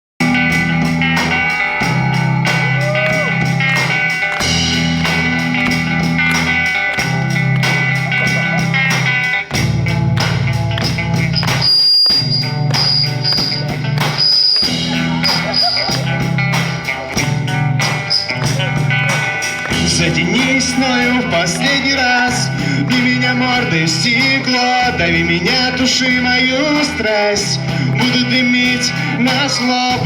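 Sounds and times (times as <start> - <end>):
drum beat: 0.2 - 30.0
rock guitar: 0.2 - 30.0.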